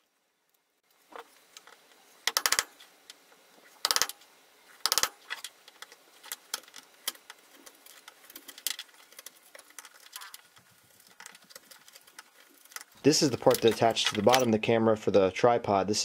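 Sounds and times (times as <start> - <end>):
metallic clicks and scrapes: 1.2 - 14.5.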